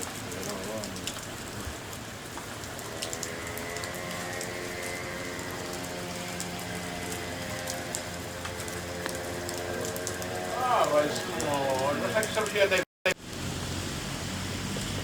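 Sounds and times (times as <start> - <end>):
heavy rain falling: 0.0 - 15.0
raindrops tapping surfaces: 0.0 - 15.0.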